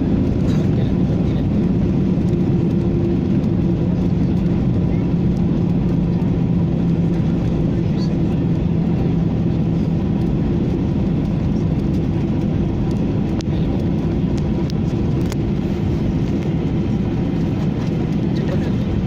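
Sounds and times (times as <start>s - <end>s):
engine and wheel rumble: 0.0s - 19.0s
hum: 0.0s - 19.0s.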